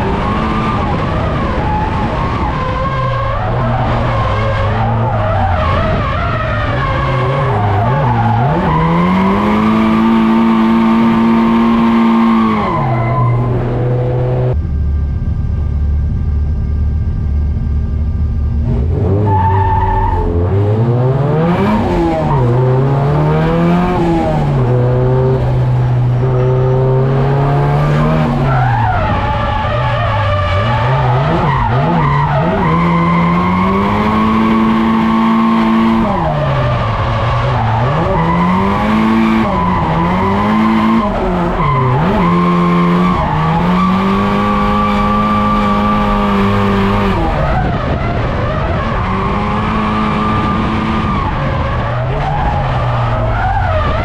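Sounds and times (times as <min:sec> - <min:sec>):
tyres skidding: 0:00.0 - 0:14.6, 0:17.6 - 0:54.0
car engine revving: 0:00.0 - 0:54.0.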